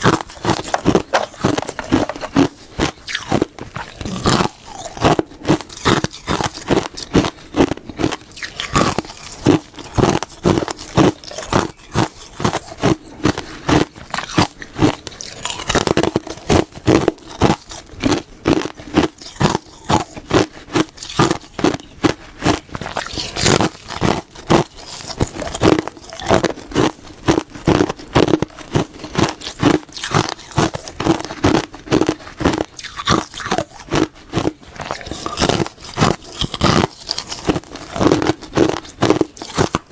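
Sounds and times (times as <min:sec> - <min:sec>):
teeth crunching brittle food: 0:00.0 - 0:39.9.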